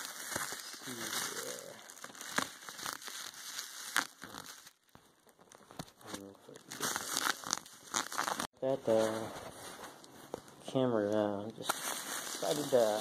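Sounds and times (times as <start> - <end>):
bubble wrap crackles: 0.0 - 10.4, 11.0 - 13.0
bubble wrap crinkling: 0.0 - 13.0.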